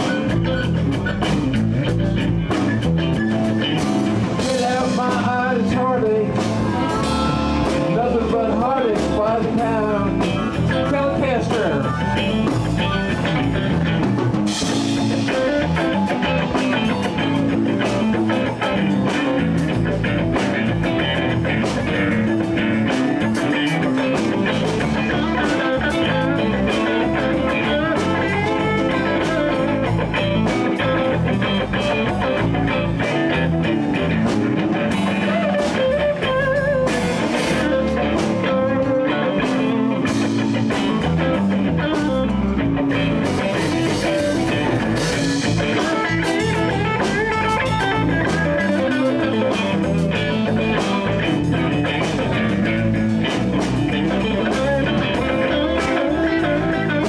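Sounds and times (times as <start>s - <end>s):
bass: 0.0s - 57.0s
drum kit steady beat: 0.0s - 57.0s
electric guitar solo: 0.0s - 57.0s.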